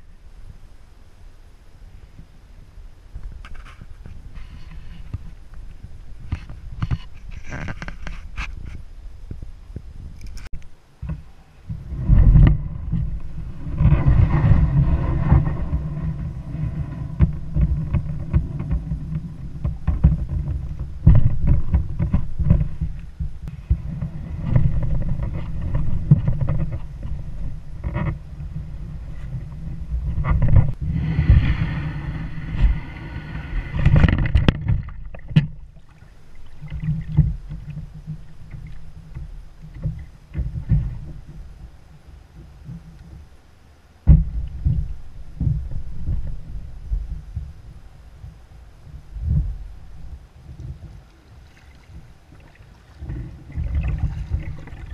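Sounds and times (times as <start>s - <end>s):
kayak hull rumbling over ground: 0.0s - 54.9s.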